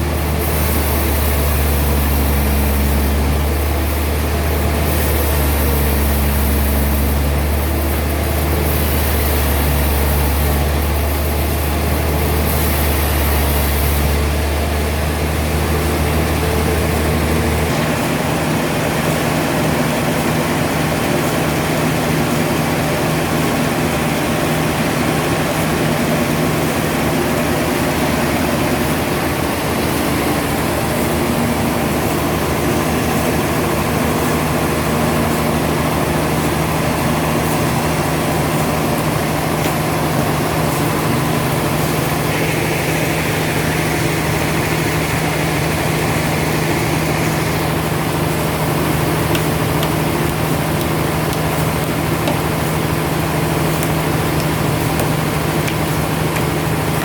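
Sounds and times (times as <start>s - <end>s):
sawmill machinery drone: 0.0s - 57.0s.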